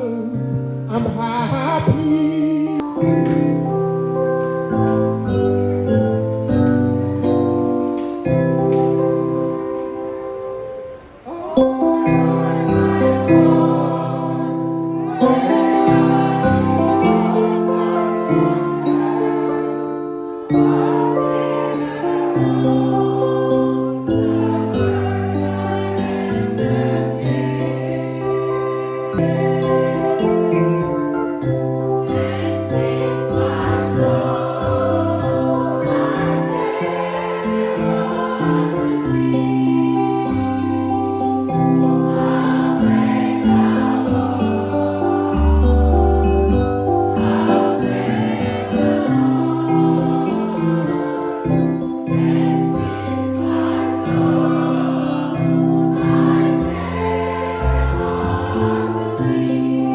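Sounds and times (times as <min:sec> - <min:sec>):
held keyboard chords: 0:00.0 - 0:59.9
choir singing: 0:03.2 - 0:59.9.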